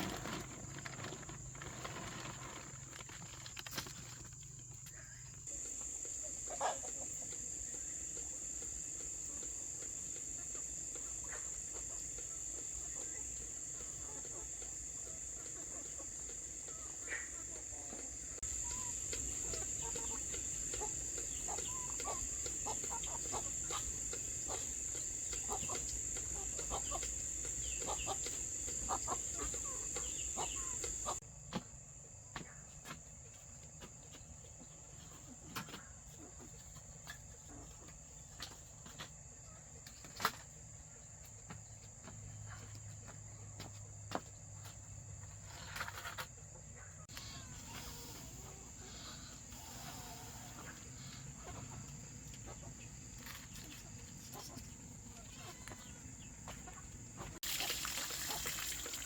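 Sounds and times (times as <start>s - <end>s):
insects chirring: 0.0s - 34.3s, 36.0s - 59.0s.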